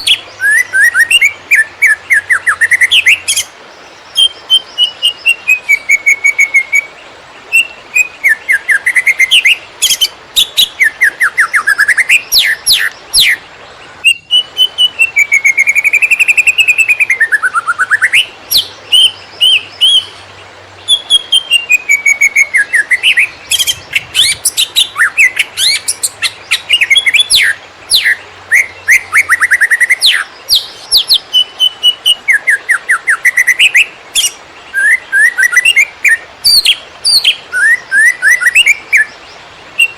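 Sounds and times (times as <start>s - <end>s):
bird singing fast varied song: 0.0s - 39.9s.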